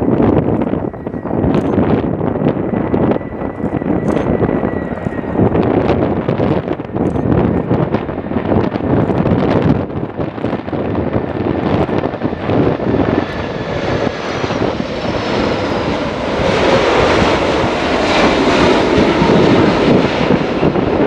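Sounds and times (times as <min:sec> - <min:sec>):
jet engines on approach: 0:00.0 - 0:21.0.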